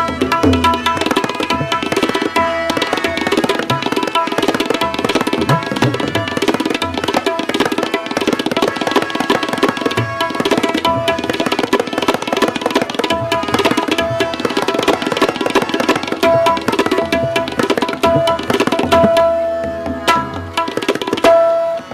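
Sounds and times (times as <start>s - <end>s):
harmonium held notes: 0.0s - 21.9s
tabla playing fast: 0.0s - 21.9s.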